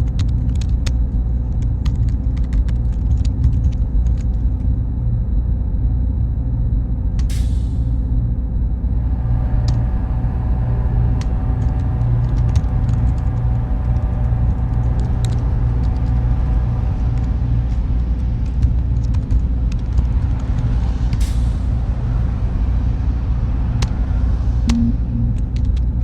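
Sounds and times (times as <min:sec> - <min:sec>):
deep mechanical rumble: 0:00.0 - 0:26.0
faint hum: 0:00.0 - 0:26.0.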